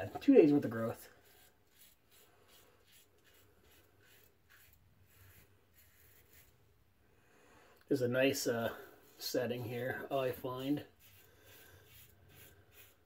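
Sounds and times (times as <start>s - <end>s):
razor scraping stubble: 0.0s - 6.6s, 8.2s - 13.0s.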